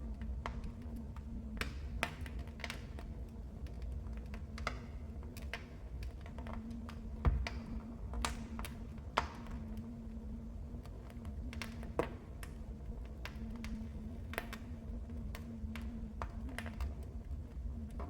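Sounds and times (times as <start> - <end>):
low rumble of burning fire: 0.0 - 18.0
wood fire pops and snaps: 0.2 - 10.2, 10.8 - 18.0.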